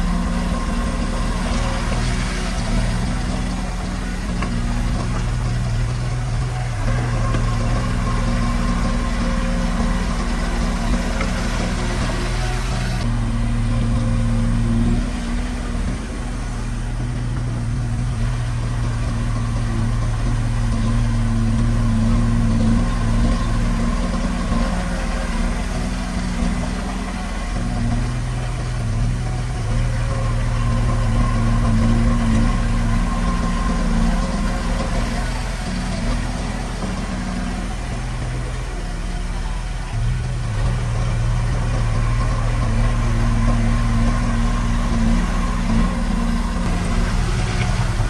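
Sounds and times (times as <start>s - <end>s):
earthmoving machine diesel engine: 0.0s - 48.0s.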